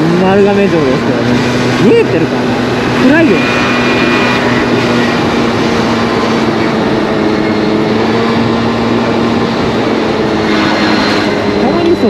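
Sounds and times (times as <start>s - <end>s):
scooter engine running: 0.0s - 12.0s
wind noise: 0.0s - 12.0s.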